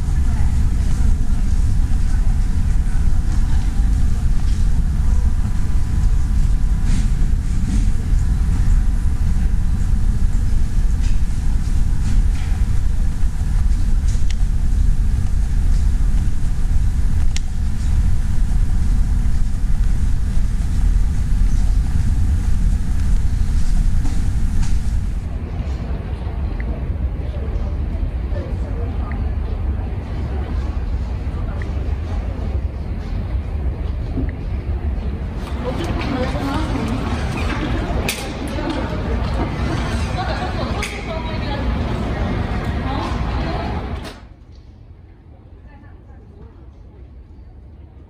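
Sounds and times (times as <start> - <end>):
faint steady hum: 0.0 - 48.0
low rumble of terminal hall: 0.0 - 48.0.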